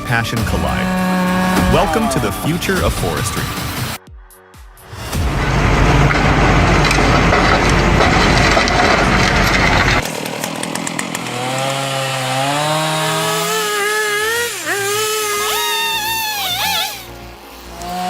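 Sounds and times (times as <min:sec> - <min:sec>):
chainsaw cutting wood: 0:00.0 - 0:02.5, 0:06.0 - 0:18.0
chainsaw engine wavering pitch: 0:00.0 - 0:04.0, 0:06.3 - 0:18.0.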